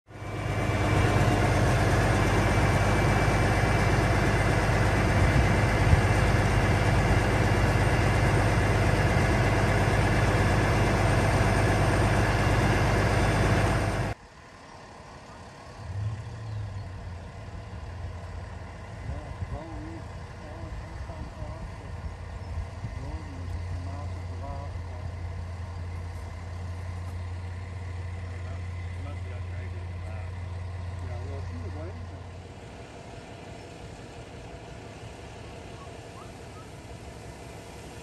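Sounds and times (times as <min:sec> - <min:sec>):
faint low engine hum: 0:00.1 - 0:38.0
large vehicle engine idling: 0:00.1 - 0:38.0.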